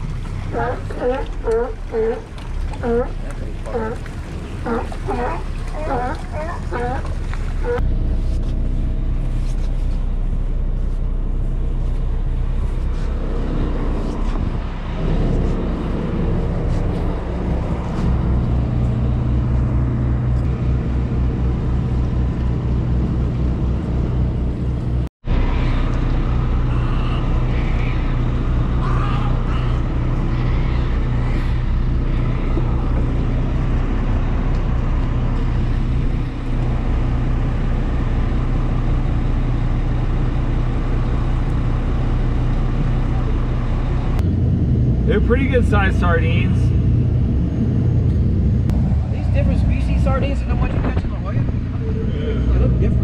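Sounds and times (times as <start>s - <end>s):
boat engines droning: 0.0s - 53.0s.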